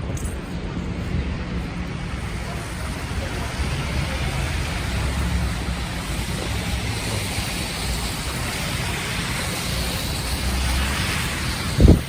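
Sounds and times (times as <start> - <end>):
city street traffic: 0.0 - 12.0
wind rumbling on microphone: 0.0 - 12.0.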